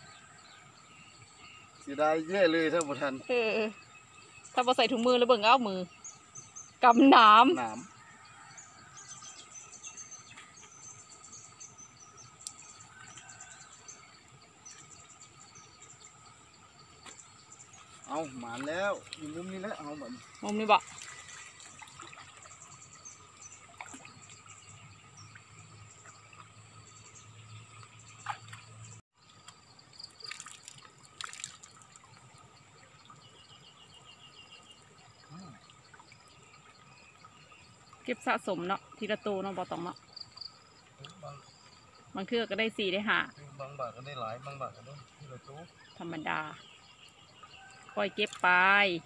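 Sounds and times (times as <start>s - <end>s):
insects trilling: 0.0s - 49.0s
water trickling and dripping: 1.1s - 49.0s.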